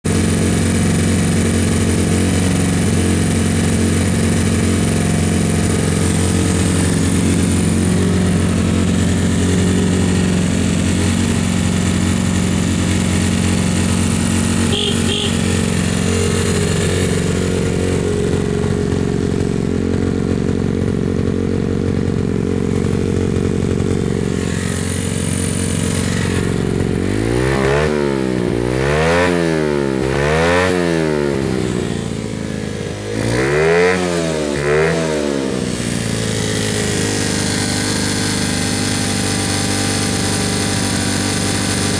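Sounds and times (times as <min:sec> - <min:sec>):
minibike engine idling: 0:00.1 - 0:27.5, 0:35.5 - 0:41.9
engine revving: 0:00.1 - 0:32.2, 0:33.0 - 0:41.9.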